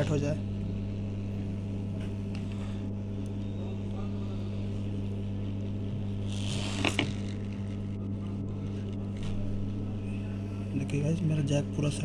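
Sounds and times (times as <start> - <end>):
hot-air station blowing: 0.0 - 12.0.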